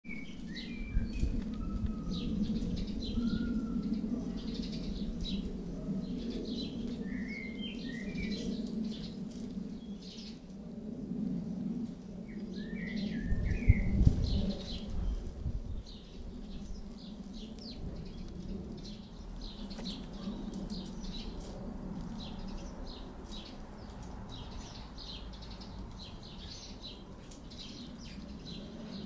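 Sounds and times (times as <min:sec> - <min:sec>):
songbirds chirping and singing: 0:00.1 - 0:10.6, 0:11.4 - 0:29.0.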